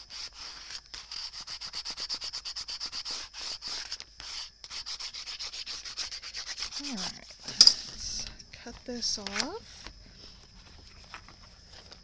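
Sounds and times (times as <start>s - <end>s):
bone folder scraping paper: 0.0s - 8.0s, 9.2s - 12.0s.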